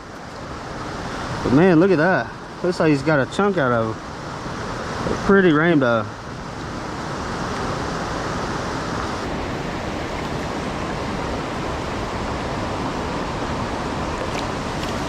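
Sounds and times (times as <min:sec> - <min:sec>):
fast stream rushing: 0:00.0 - 0:15.0.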